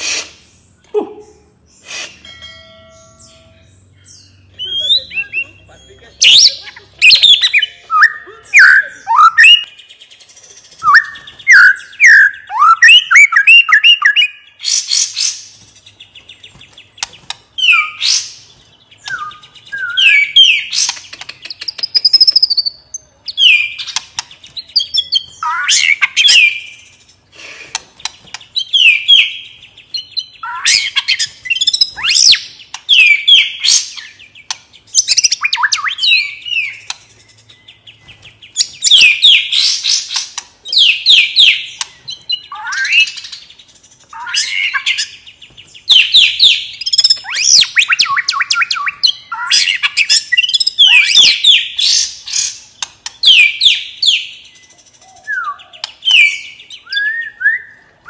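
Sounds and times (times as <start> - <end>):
bird singing whistles and chattering: 4.0 - 57.9.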